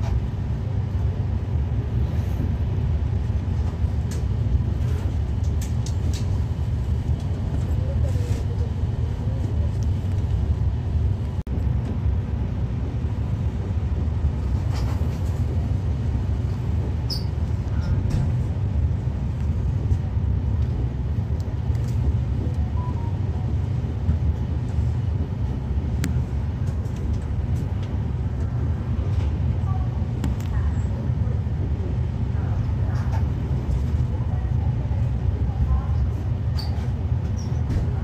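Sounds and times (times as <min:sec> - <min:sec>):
train low rumble from inside: 0:00.0 - 0:38.0.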